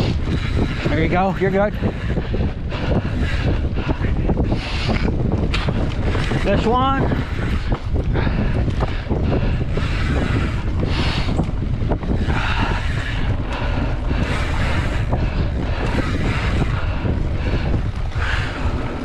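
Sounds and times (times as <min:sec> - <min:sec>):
bike clicks and rattles: 0:00.0 - 0:19.0
low rumble: 0:00.0 - 0:19.0
wind buffeting microphone: 0:00.0 - 0:19.0.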